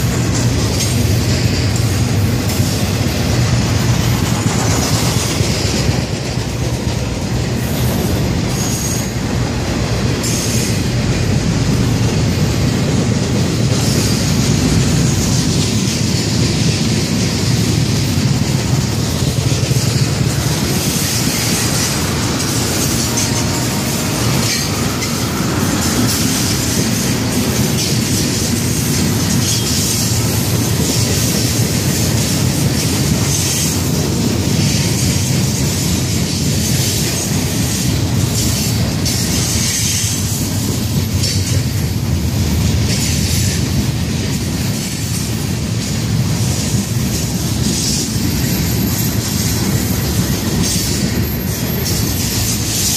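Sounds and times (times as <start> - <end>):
freight train cars rolling: 0.0 - 52.9.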